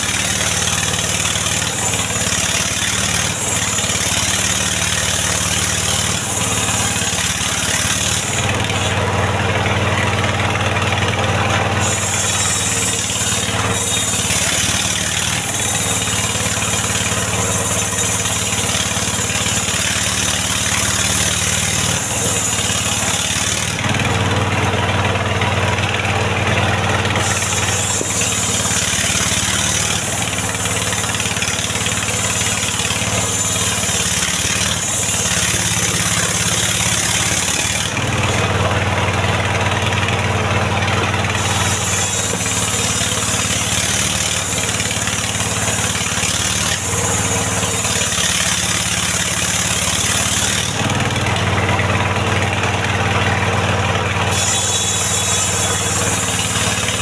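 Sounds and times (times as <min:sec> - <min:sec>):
low engine note: 0:00.0 - 0:57.0
sawmill blade ripping log: 0:00.0 - 0:57.0.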